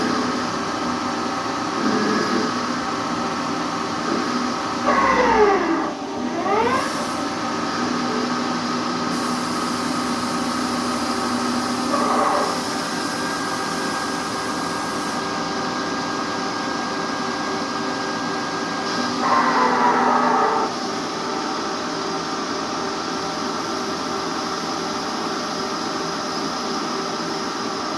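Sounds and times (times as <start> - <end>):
machine spindle whine: 0.0 - 27.9.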